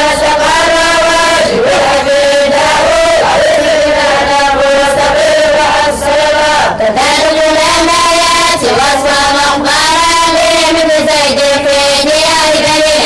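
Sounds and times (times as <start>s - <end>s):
group chanting in unison: 0.0s - 13.0s.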